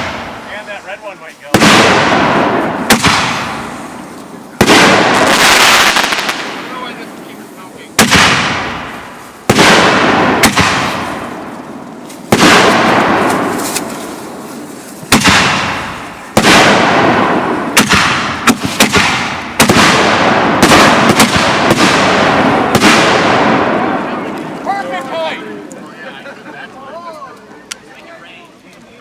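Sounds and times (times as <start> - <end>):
fireworks booming: 0.0 - 25.3.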